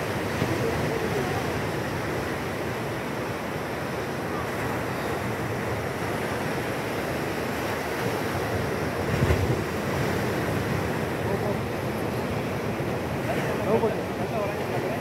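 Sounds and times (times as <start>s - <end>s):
surf washing on a beach: 0.0s - 15.0s.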